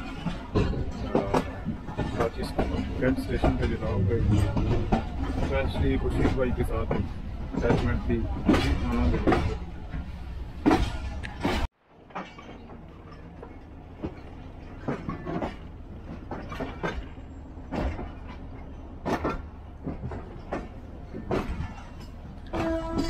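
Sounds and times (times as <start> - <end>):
train low rumble: 0.0 - 23.0
train wheels clanking over rail joints: 0.0 - 23.0.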